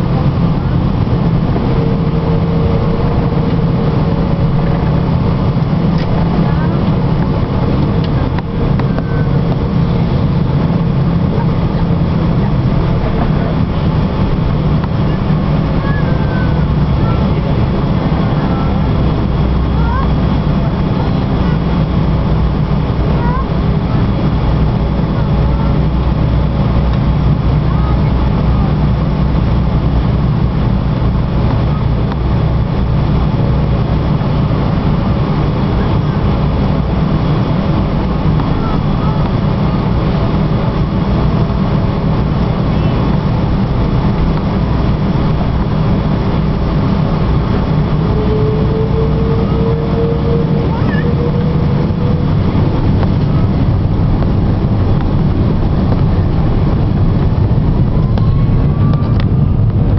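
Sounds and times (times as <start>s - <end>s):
aircraft cabin engine hum: 0.0s - 59.9s
dense rushing noise: 0.0s - 59.9s.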